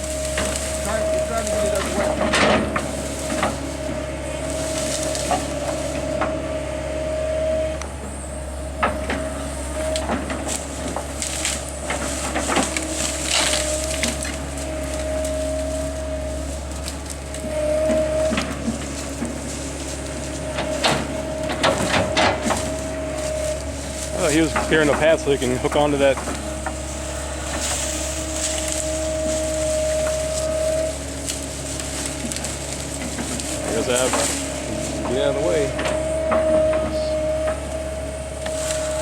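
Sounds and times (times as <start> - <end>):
wood cracking and snapping: 0.0 - 6.3, 8.8 - 39.0
tractor engine running: 0.0 - 39.0.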